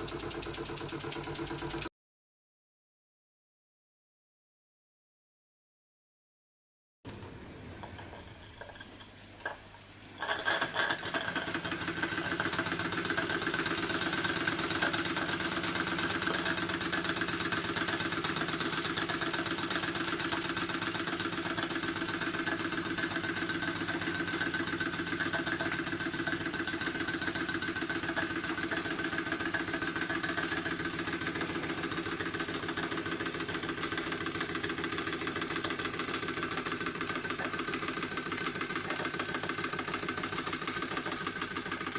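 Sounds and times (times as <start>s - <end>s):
fan whirring: 0.0s - 1.9s, 7.1s - 41.9s
small model engine running: 0.0s - 1.9s, 10.2s - 41.9s.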